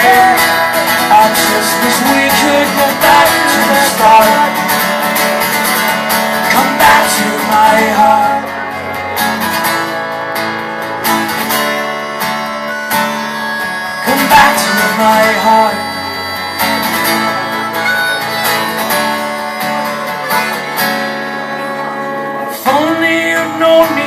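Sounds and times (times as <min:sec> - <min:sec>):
acoustic guitar strumming: 0:00.0 - 0:24.0
harmonica melody: 0:00.0 - 0:24.0.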